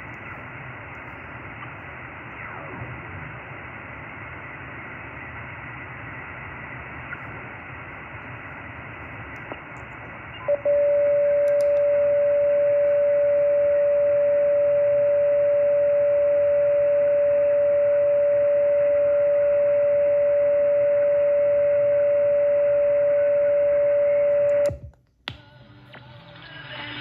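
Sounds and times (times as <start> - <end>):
radio receiver hiss: 0.0 - 24.9.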